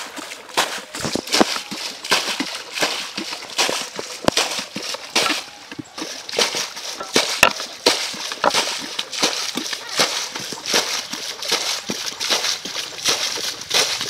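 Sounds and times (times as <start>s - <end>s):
bucket scooping water: 0.0s - 14.0s
water splashing and sloshing: 0.0s - 14.0s.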